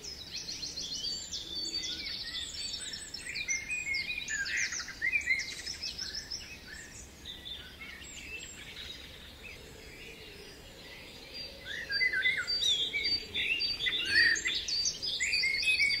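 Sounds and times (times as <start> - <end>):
songbirds chirping and singing: 0.0 - 16.0.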